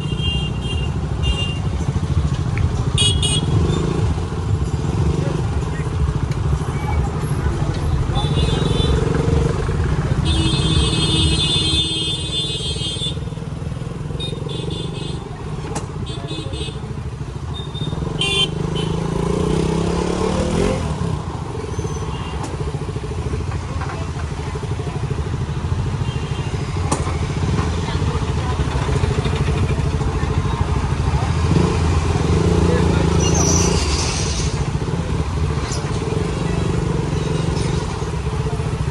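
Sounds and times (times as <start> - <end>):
motorcycle engine revving: 1.7 - 12.2, 17.0 - 38.9.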